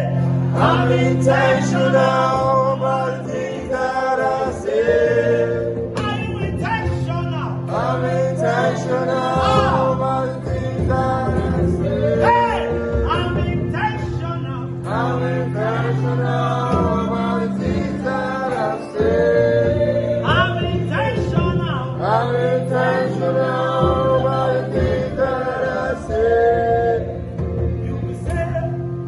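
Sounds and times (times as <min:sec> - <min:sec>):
gospel singing voices: 0:00.0 - 0:29.0
sustained instrumental backing: 0:00.0 - 0:29.0.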